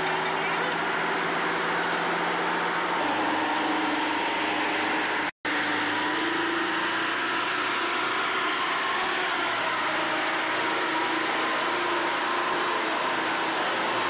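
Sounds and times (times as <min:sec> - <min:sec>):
steady mechanical drone: 0:00.0 - 0:14.0.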